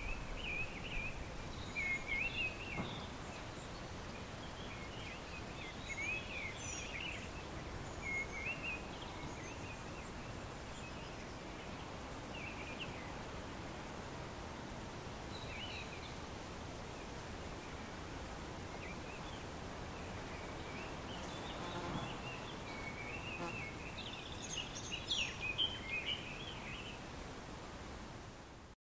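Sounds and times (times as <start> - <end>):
songbirds chirping: 0.0 - 28.4
outdoor ambience hiss: 0.0 - 28.8.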